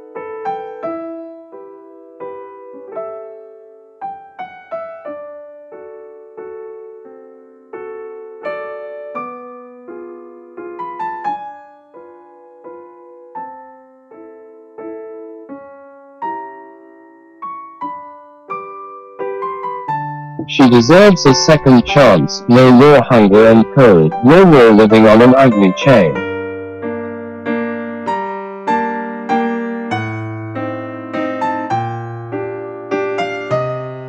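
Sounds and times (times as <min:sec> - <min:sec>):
slow piano music: 0:00.0 - 0:34.0.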